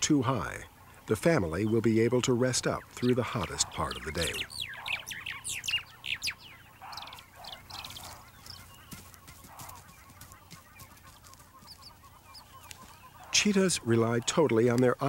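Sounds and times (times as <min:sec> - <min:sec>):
birds whistling falling calls: 0:00.0 - 0:15.0
hoarse low bird calls: 0:00.0 - 0:15.0.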